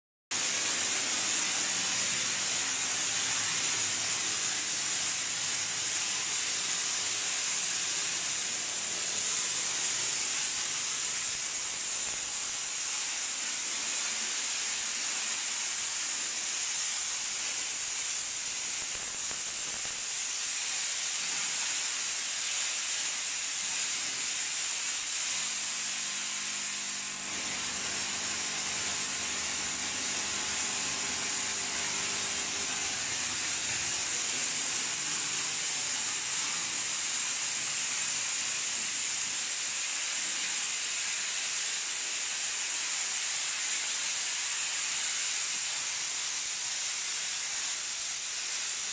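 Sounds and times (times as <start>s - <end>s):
steam jetting with high hiss: 0.3s - 48.9s.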